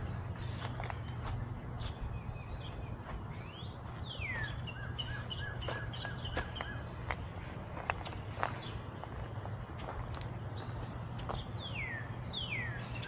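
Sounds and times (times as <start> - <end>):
songbird singing: 0.0 - 13.0
steady low rumble: 0.0 - 13.0.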